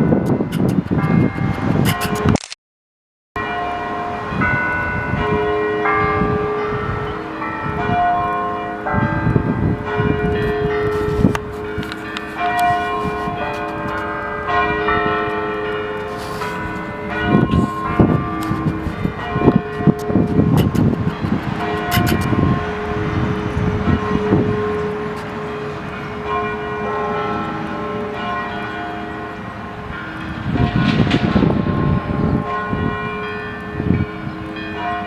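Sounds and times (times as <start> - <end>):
church bells ringing: 0.0 - 2.2, 3.4 - 35.0.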